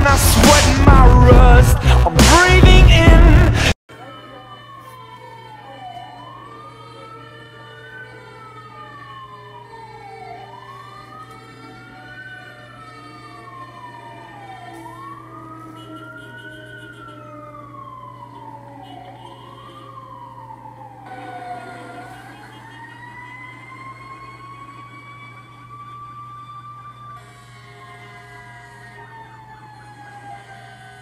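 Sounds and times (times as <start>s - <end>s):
second siren gliding down: 3.9s - 31.0s.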